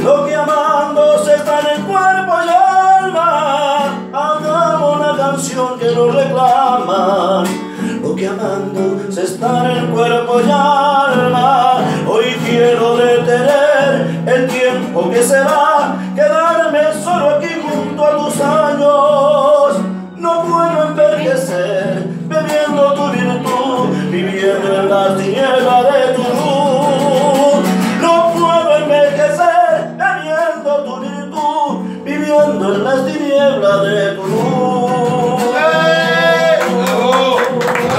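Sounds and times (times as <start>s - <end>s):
acoustic guitar: 0.0s - 37.9s
man singing a ballad: 0.0s - 37.9s.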